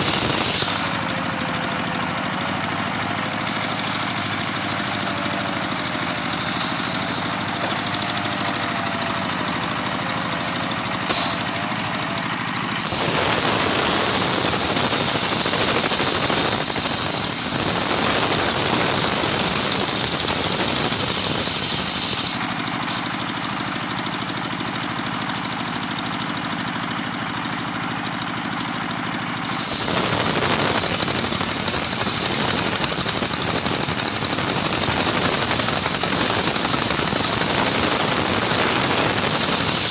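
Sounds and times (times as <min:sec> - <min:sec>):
high hissing sawing: 0:00.0 - 0:24.6, 0:29.4 - 0:39.9
sawmill engine running: 0:00.0 - 0:39.9.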